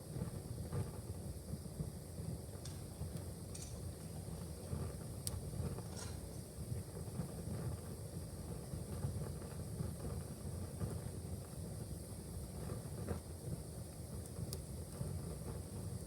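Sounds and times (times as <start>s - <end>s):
faint fire crackles: 0.0s - 16.0s
low rumble of flames: 0.0s - 16.0s.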